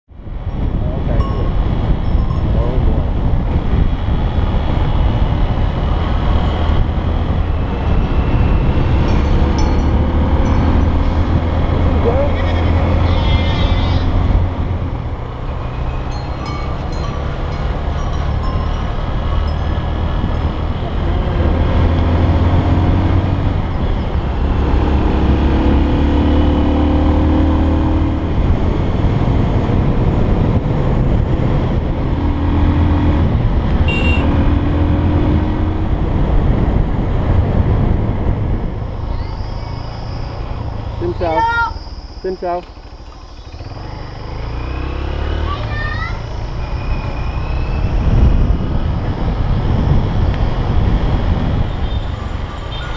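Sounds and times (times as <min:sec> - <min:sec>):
wind rush over microphone: 0:00.1 - 0:42.2, 0:46.2 - 0:52.9.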